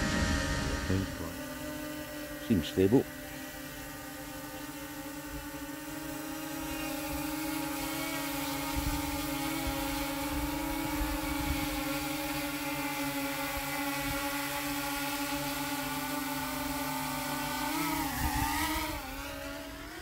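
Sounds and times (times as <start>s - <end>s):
drone rotors whirring: 0.0s - 20.0s.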